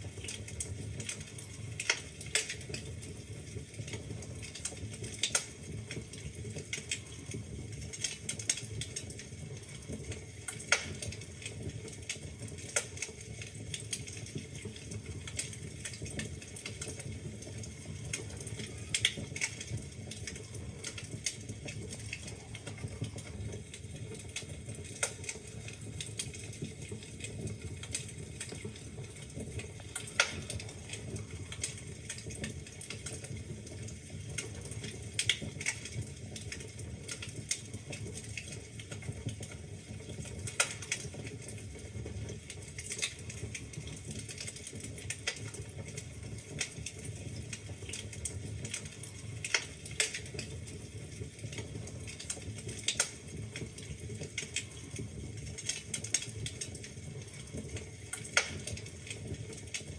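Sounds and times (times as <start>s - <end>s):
burning logs popping: 0.0s - 59.9s
fire crackling: 0.0s - 59.9s
low rumble of flames: 0.0s - 59.9s.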